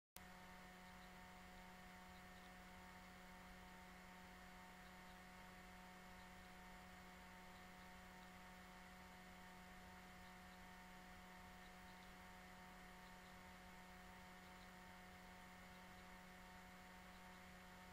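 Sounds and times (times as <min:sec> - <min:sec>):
faint electrical hum and hiss: 0:00.2 - 0:17.9.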